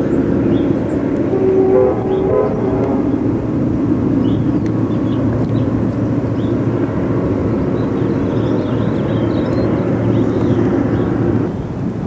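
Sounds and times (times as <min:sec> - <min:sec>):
boat motor rumbling: 0:00.0 - 0:12.0.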